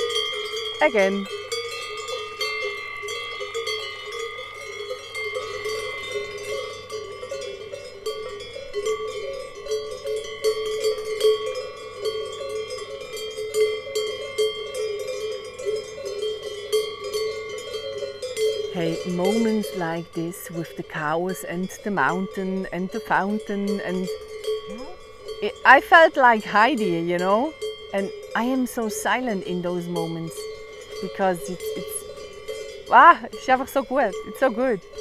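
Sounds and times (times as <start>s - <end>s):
cowbells clanking: 0.0s - 35.0s.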